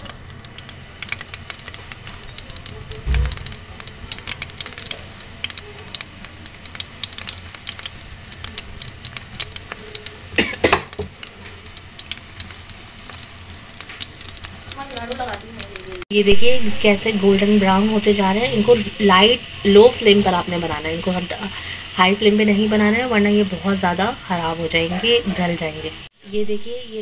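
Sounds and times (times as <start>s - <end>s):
bread rolls sizzling in oil: 0.0s - 27.0s.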